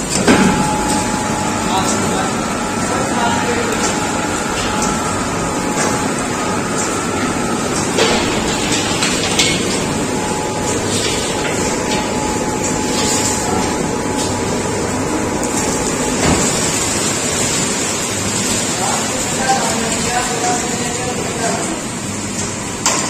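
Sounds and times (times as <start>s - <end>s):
factory machinery running: 0.0s - 23.0s.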